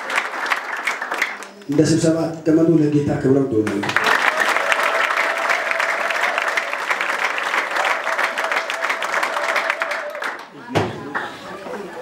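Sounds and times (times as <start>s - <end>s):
congregation clapping: 0.0s - 2.1s, 3.6s - 11.4s.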